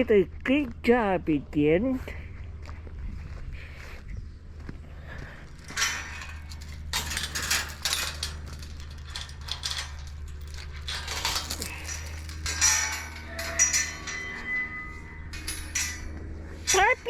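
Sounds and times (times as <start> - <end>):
low steady hum: 0.0 - 17.0
rustling and crunching: 2.8 - 17.0.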